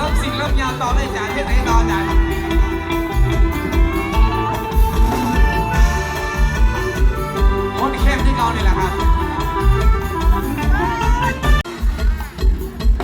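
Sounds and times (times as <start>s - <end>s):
instrumental band music: 0.0s - 13.0s.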